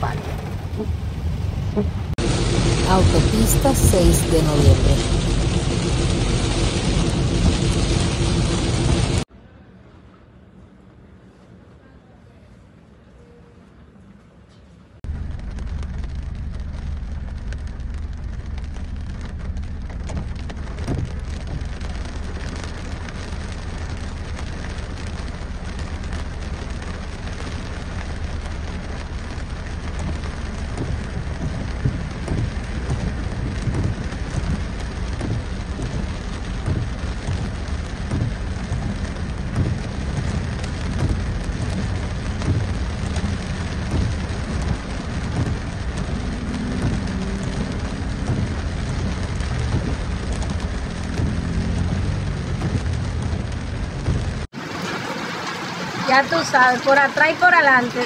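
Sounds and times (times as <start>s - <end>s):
deep rumble: 0.0s - 9.3s, 15.0s - 56.6s
heavy rain pouring: 0.0s - 9.3s, 15.0s - 58.0s.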